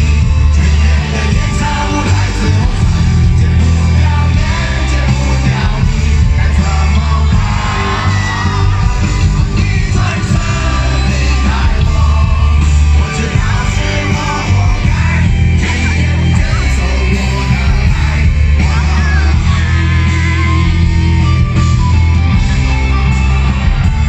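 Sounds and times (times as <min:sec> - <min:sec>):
sung and shouted vocal: 0:00.0 - 0:21.6
live rock band playing: 0:00.0 - 0:24.0.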